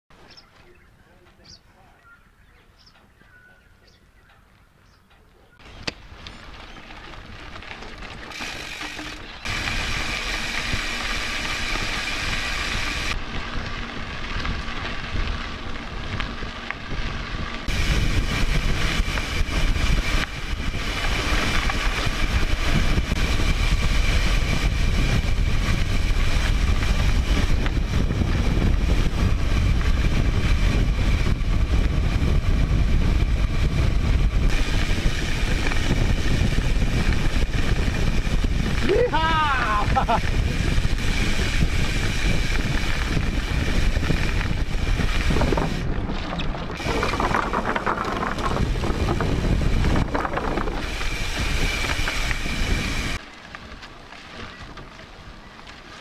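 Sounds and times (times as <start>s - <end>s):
wind buffeting microphone: 0.3s - 55.6s
bike tyre and chassis noise: 5.6s - 56.0s.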